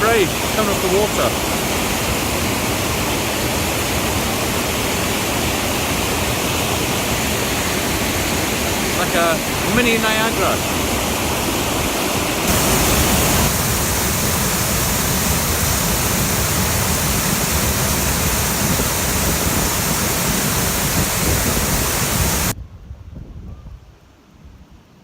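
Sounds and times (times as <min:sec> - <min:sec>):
waterfall: 0:00.0 - 0:22.6.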